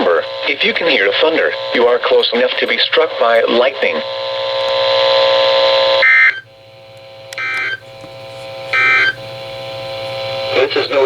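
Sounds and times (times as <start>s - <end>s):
steady buzzing tone: 0.0s - 11.0s.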